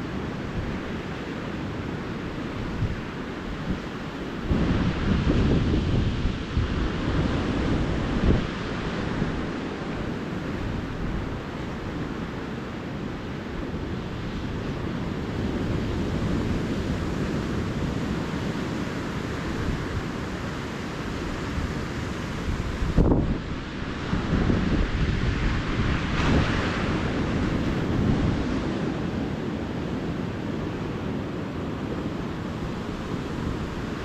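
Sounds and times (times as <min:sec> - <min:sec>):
wind buffeting microphone: 0:00.0 - 0:31.2
ocean surf on beach: 0:00.0 - 0:34.0.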